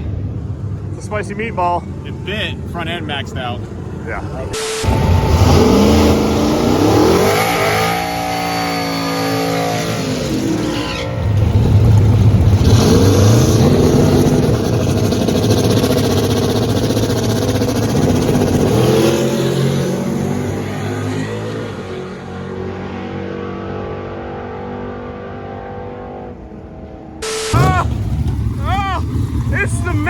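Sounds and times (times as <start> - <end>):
drag car engine revving: 4.4 - 30.0.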